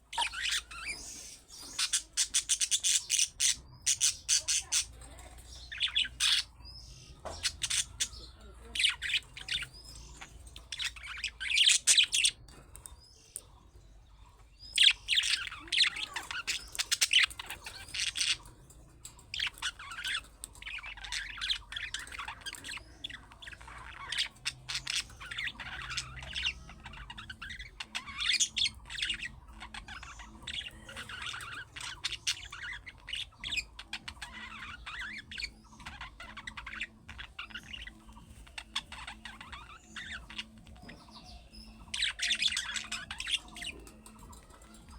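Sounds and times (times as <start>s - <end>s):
budgerigar chirping and warbling: 0.0s - 12.5s, 14.6s - 44.9s.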